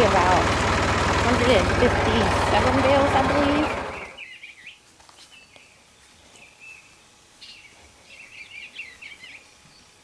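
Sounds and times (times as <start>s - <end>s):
songbirds chirping and twittering: 0.0s - 10.0s.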